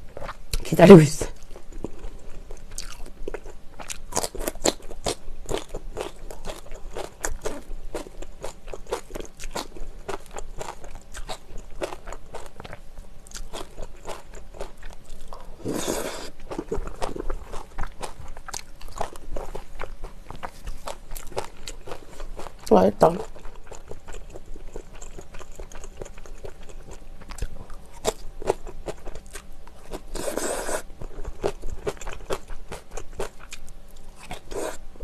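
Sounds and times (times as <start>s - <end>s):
wet crunchy chewing: 1.4s - 34.8s.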